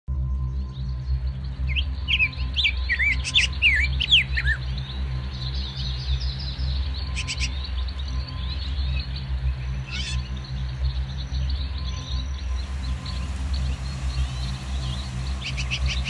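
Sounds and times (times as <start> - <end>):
steady low hum: 0.1 - 16.0
birds chirping: 0.4 - 16.0.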